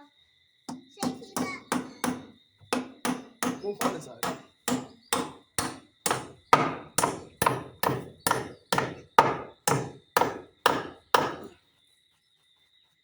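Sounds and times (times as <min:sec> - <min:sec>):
hammer driving a nail: 0:00.7 - 0:11.5.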